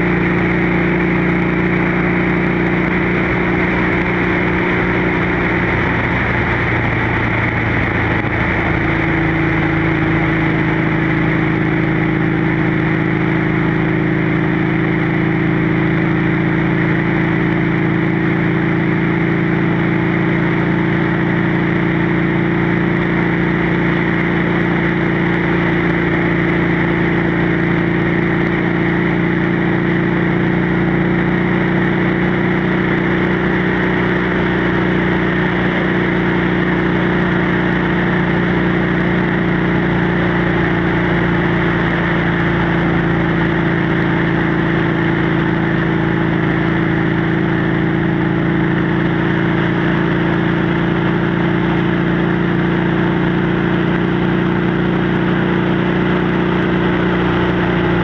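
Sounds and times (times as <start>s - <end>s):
motorcycle engine cruising: 0.0s - 58.0s
road noise: 0.0s - 58.0s.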